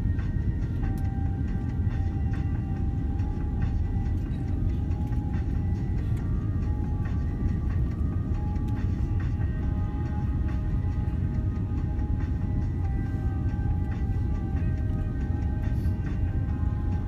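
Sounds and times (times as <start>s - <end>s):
faint whining tones: 0.0s - 17.0s
jet engine and airflow rumble: 0.0s - 17.0s.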